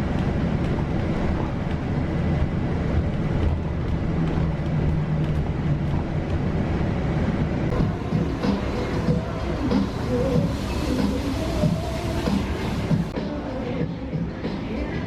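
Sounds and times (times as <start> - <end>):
faint engine hum: 0.0 - 15.0
vehicle rumble: 0.0 - 15.0.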